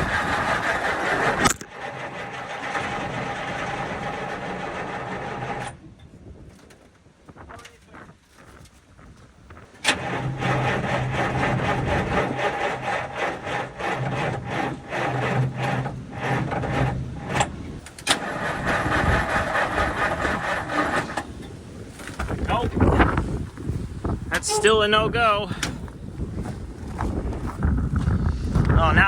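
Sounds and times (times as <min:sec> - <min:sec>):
diesel engine cranking slowly: 0:00.0 - 0:06.1, 0:09.7 - 0:27.6.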